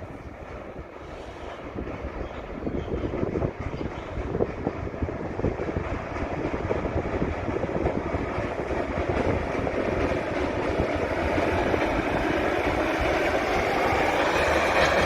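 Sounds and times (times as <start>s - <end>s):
train rumbling on track: 0.0s - 15.0s
wheels rattling on rails: 0.0s - 15.0s.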